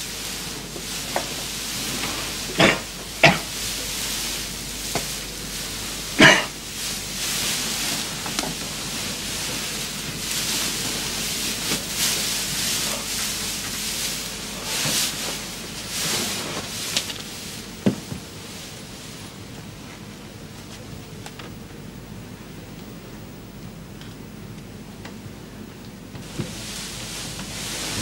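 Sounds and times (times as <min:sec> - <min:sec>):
straw mattresses rustling and crunching: 0:00.0 - 0:21.2, 0:26.2 - 0:28.0.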